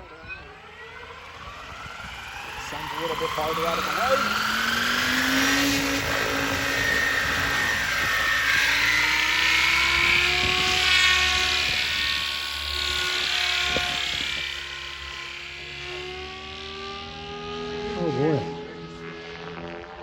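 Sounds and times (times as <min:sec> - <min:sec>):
motor and gear whine: 0:00.0 - 0:20.0
rushing rotor noise: 0:00.0 - 0:20.0.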